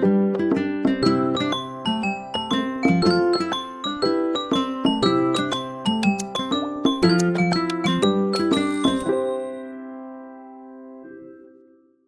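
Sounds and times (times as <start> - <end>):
bright keyboard tune: 1.0 - 11.6.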